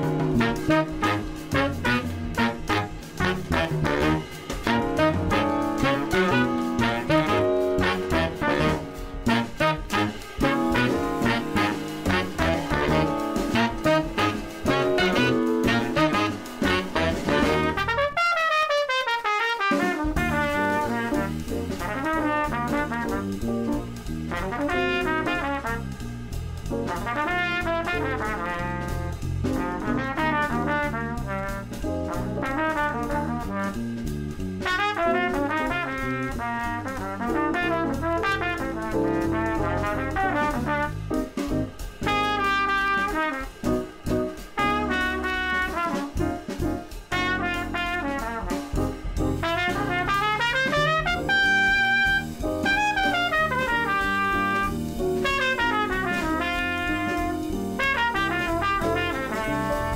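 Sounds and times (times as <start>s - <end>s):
brass jazz music: 0.0s - 59.9s.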